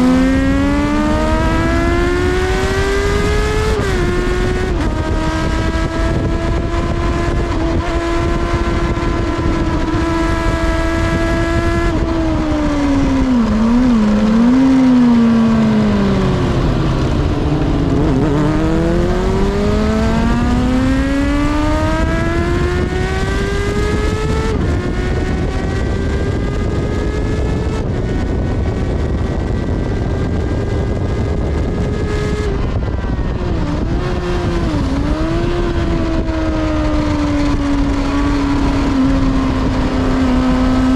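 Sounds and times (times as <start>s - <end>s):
heavy wind rush: 0.0s - 40.9s
motorcycle engine revving and downshifting: 0.0s - 40.9s.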